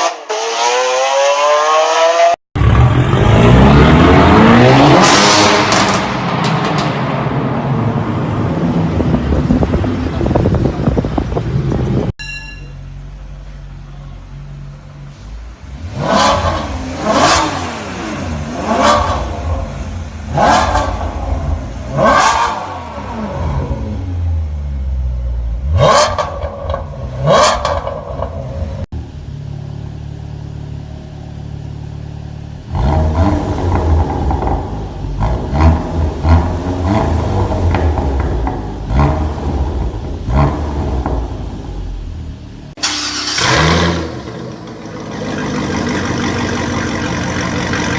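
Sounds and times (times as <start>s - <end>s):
car engine revving: 0.0s - 12.1s, 14.6s - 47.9s.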